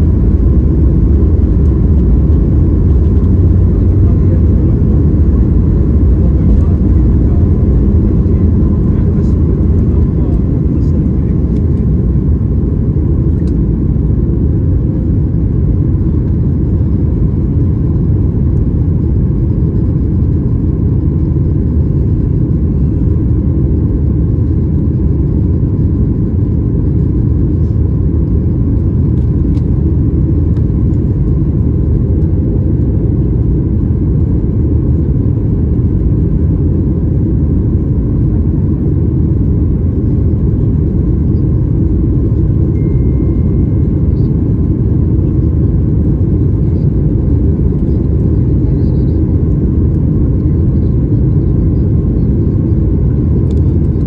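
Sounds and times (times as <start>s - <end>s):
airplane engines rumbling: 0.0s - 54.0s
faint steady whine: 0.0s - 54.0s.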